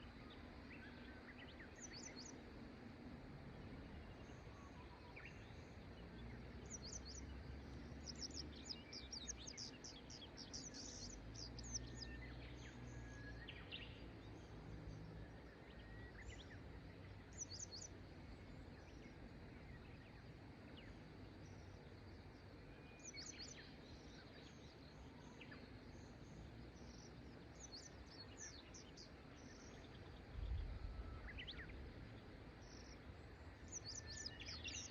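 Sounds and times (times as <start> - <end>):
faint birds chirping: 0.0 - 34.9.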